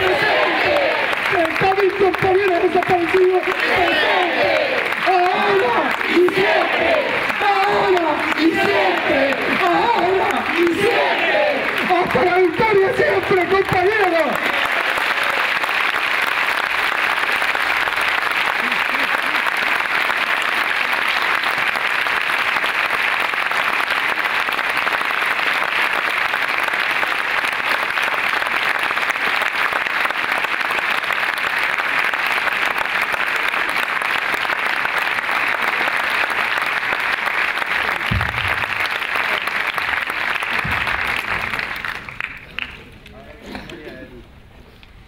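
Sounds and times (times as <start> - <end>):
audience applauding: 0.0 - 43.1.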